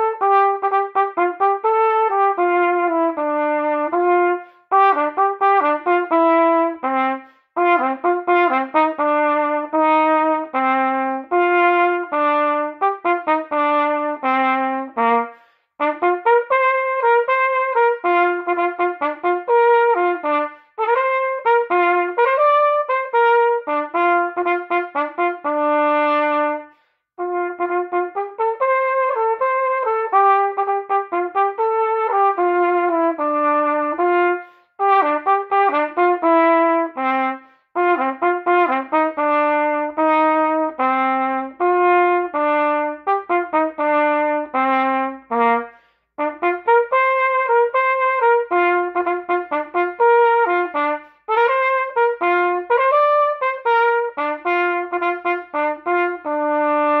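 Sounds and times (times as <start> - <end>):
solo trumpet playing: 0.0 - 57.0.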